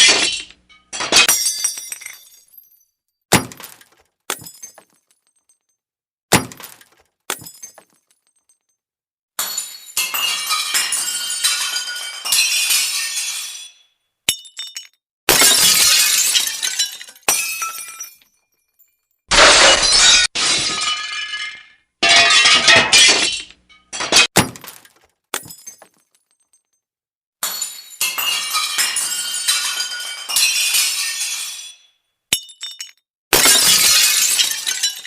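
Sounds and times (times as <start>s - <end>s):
glass shattering: 0.0s - 8.8s, 9.4s - 26.8s, 27.4s - 35.0s.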